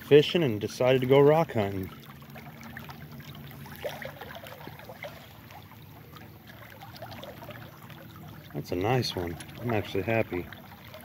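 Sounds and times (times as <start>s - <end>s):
soft steady water wash: 0.0s - 11.0s.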